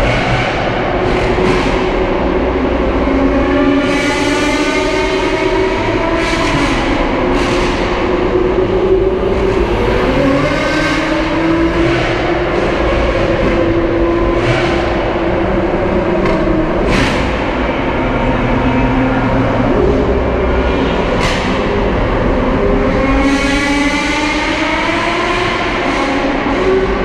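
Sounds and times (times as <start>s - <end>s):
car engine cruising: 0.0s - 27.0s
road and tyre noise: 0.0s - 27.0s.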